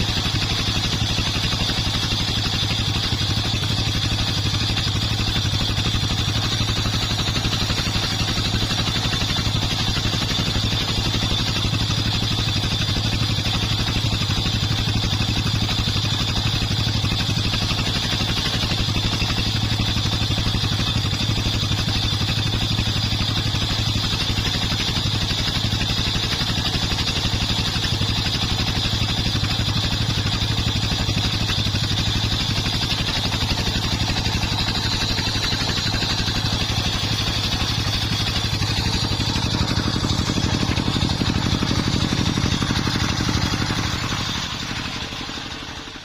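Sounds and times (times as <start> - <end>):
high whine of spinning saw: 0.0 - 46.0
sawmill engine running: 0.0 - 46.0.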